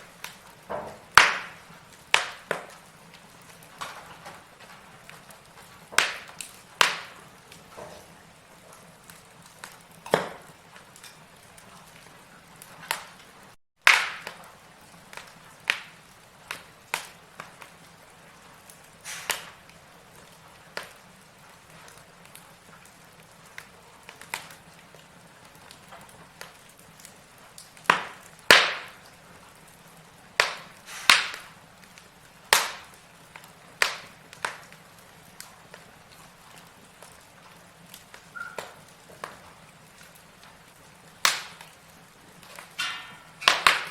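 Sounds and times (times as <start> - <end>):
burning logs crackling: 0.0 - 43.9.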